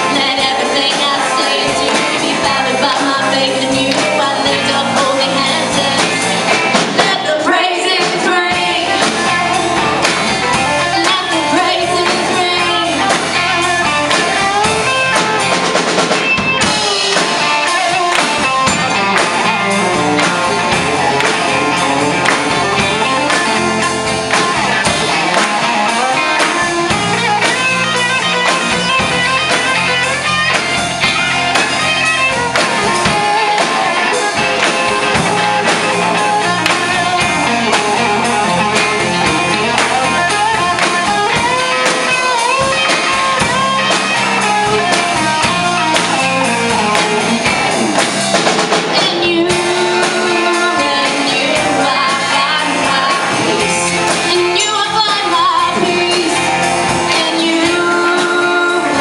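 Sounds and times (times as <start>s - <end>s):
drum kit: 0.0s - 59.0s
guitar: 0.0s - 59.0s
voices singing: 0.0s - 59.0s.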